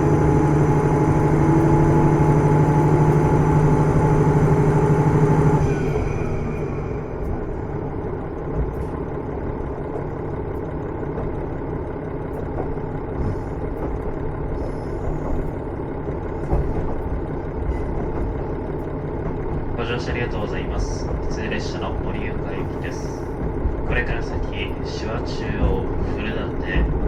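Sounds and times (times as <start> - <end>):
railcar engine pulling: 0.0 - 27.0
wheels rumbling on rail: 0.0 - 27.0.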